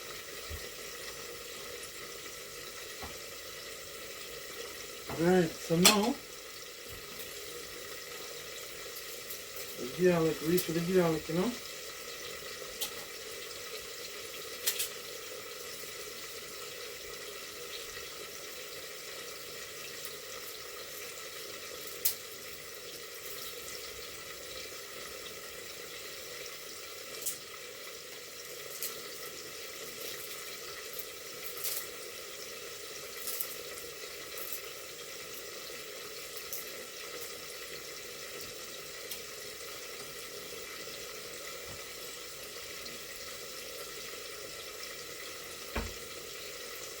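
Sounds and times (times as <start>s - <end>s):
kitchen hiss: 0.0s - 47.0s.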